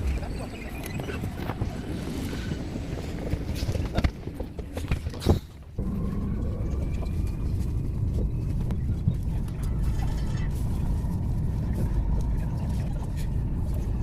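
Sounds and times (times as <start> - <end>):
road vehicle rumble: 0.0 - 14.0.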